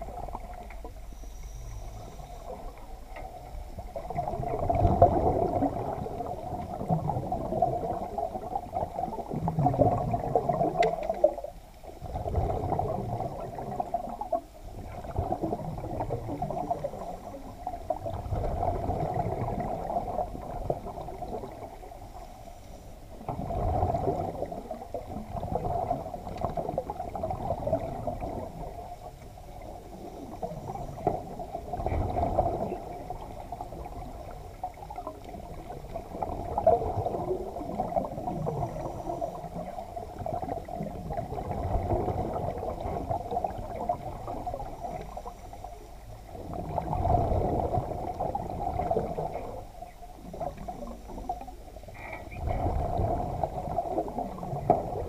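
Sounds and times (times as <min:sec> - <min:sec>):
muffled water sloshing underwater: 0:00.0 - 0:55.0.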